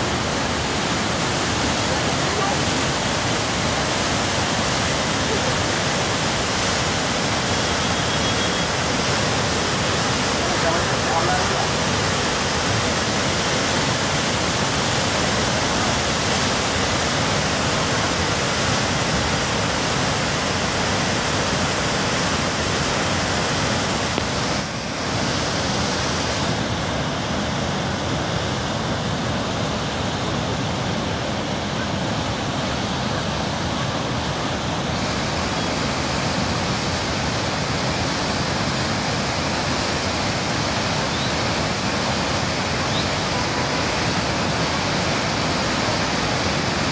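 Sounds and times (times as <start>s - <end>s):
river rushing in flood: 0.0s - 46.9s.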